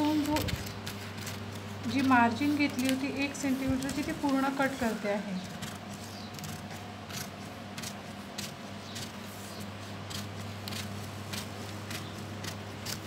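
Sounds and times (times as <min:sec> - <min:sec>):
scissors snipping paper: 0:00.0 - 0:13.0.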